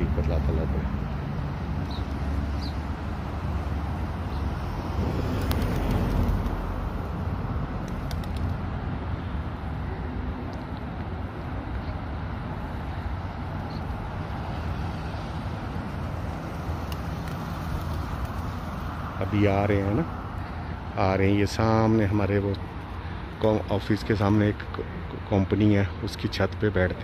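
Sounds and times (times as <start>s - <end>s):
distant road traffic rumble: 0.0s - 27.0s.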